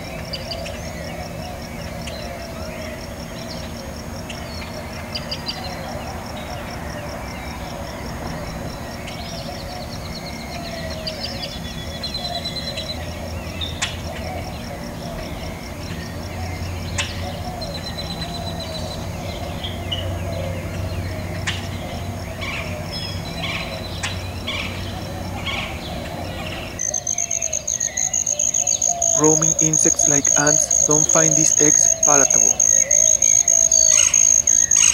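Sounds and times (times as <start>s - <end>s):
birds chirping and trilling: 0.0s - 34.9s
outdoor background hum: 0.0s - 34.9s.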